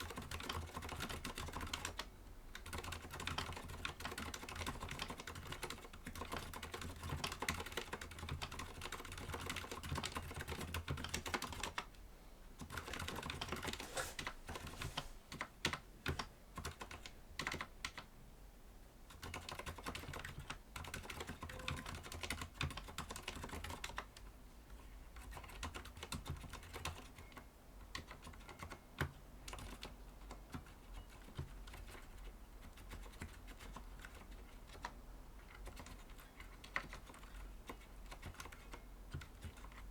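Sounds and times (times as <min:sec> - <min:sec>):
soft mechanical keyboard typing: 0:00.0 - 0:12.0, 0:12.6 - 0:18.1, 0:19.1 - 0:39.9.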